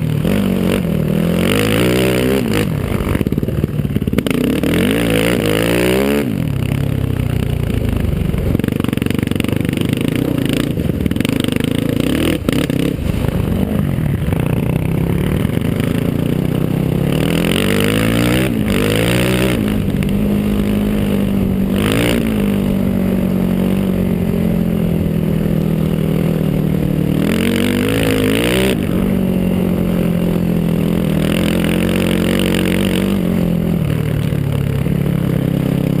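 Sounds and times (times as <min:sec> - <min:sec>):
quad engine running hard: 0:00.0 - 0:36.0.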